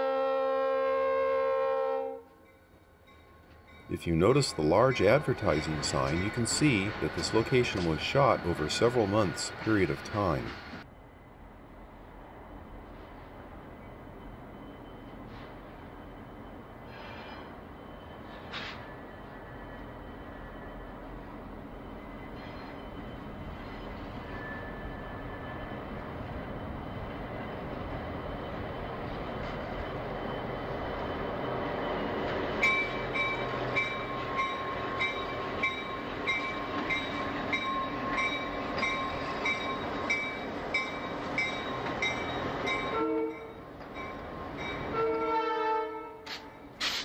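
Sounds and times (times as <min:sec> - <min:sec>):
diesel locomotive engine rumble: 0:01.5 - 0:47.0.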